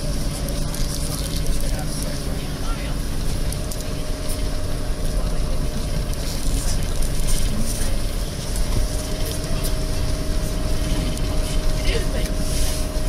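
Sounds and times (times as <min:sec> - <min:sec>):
engine and tyre rumble: 0:00.0 - 0:13.0
wheels hissing on gritty road: 0:00.0 - 0:13.0.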